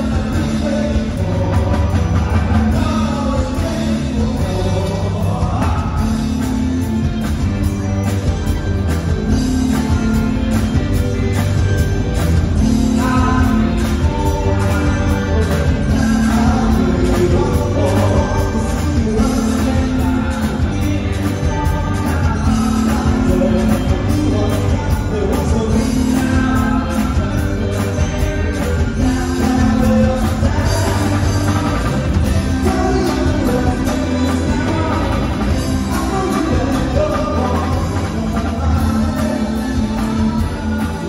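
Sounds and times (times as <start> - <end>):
person singing: 0.0 - 8.2, 8.8 - 41.0
bass guitar: 0.0 - 41.0
electric guitar: 0.0 - 41.0.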